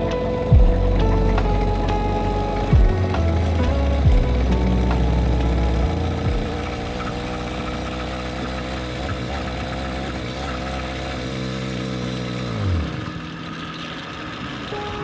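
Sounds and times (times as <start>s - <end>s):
motorcycle engine running and stalling: 0.0s - 15.0s.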